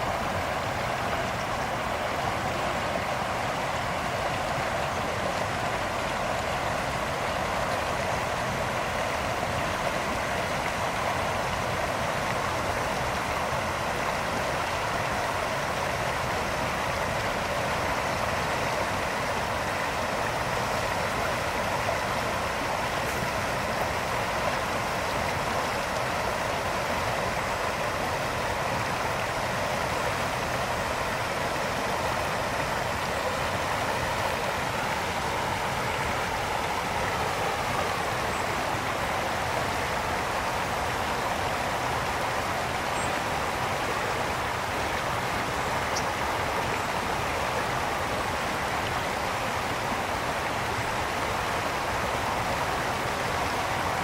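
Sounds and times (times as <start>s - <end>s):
brook water flowing over stones: 0.0s - 54.0s.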